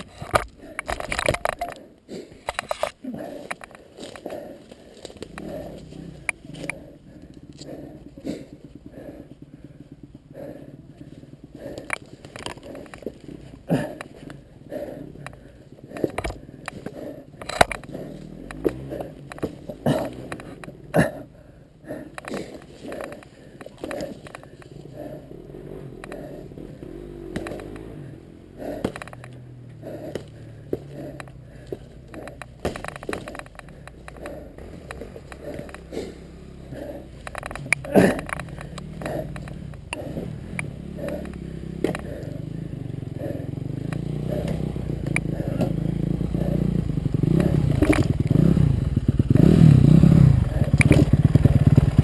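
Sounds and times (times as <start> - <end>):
sharp clicks: 0.0 - 8.1, 11.5 - 20.8, 21.9 - 28.0, 28.7 - 42.5, 43.1 - 48.6, 49.4 - 52.0
dirt bike engine idling: 0.0 - 52.0.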